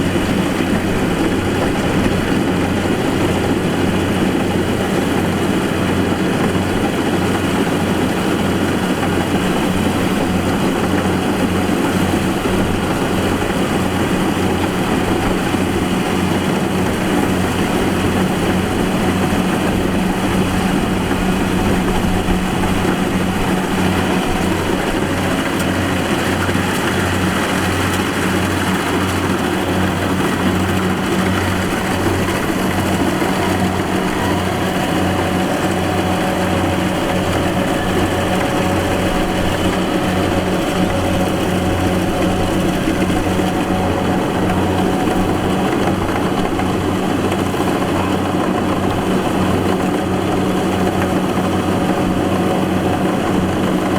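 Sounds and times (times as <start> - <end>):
combine harvester engine running: 0.0 - 53.9.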